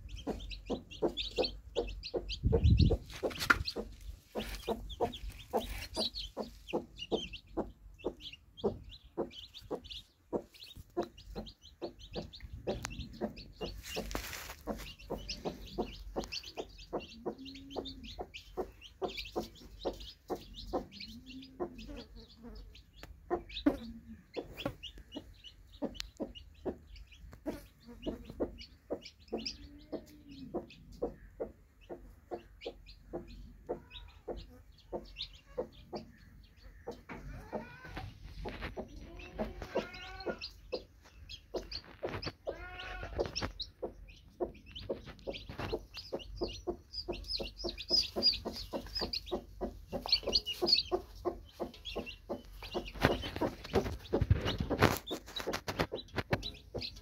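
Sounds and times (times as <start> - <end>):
chicks peeping: 0.0 - 57.0
hen clucking softly: 0.0 - 57.0.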